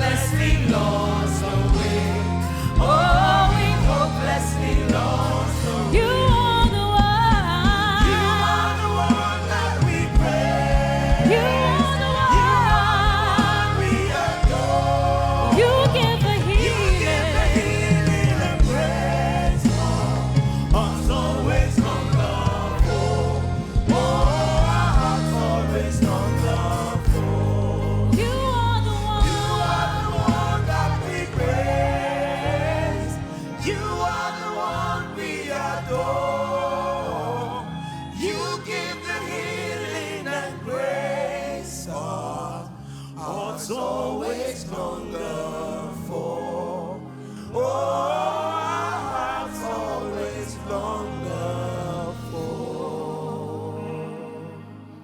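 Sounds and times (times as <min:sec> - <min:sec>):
gospel band with bass and drums: 0:00.0 - 0:55.0
people singing: 0:00.0 - 0:55.0.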